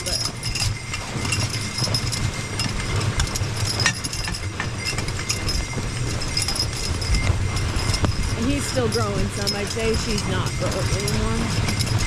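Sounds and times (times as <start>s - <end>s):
harness clinking and jingling: 0.0s - 12.0s
hoof steps: 0.0s - 12.0s
sled rumbling: 0.0s - 12.0s.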